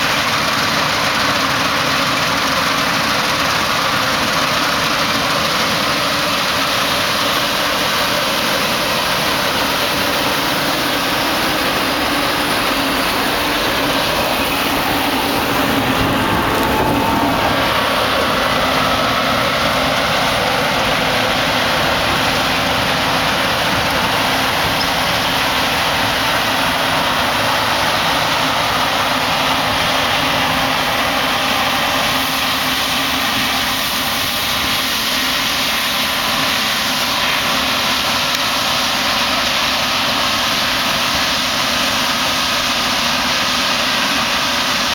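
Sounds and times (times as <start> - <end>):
combine harvester running: 0.0 - 44.9.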